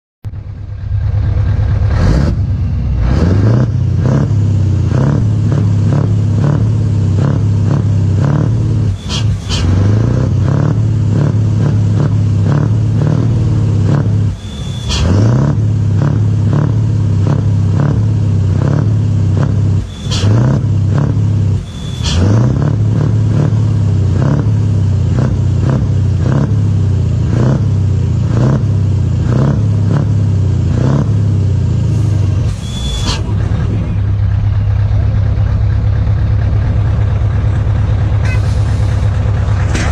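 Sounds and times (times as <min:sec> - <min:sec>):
diesel truck engine rumbling: 0:00.2 - 0:39.9.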